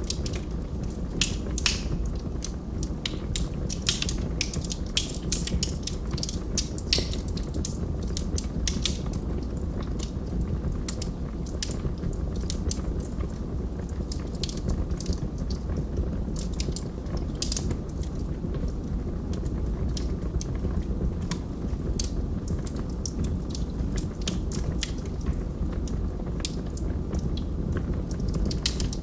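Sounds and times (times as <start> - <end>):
burning wood crackling and popping: 0.0 - 29.0
fire rumbling: 0.0 - 29.0.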